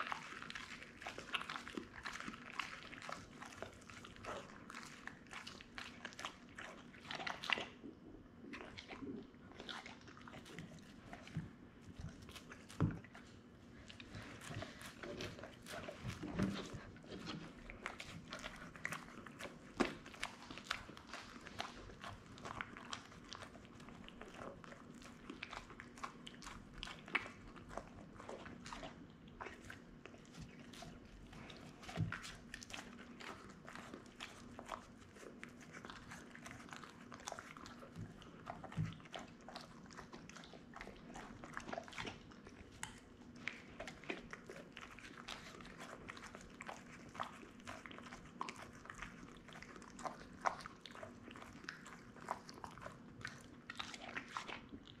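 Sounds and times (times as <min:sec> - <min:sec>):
dog chewing food: 0:00.0 - 0:55.0.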